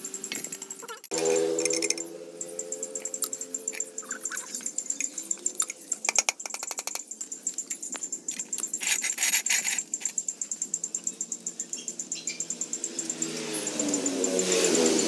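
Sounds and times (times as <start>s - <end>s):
metal parts clinking: 0.0s - 15.0s
rapid high-pitched ticking: 0.0s - 15.0s.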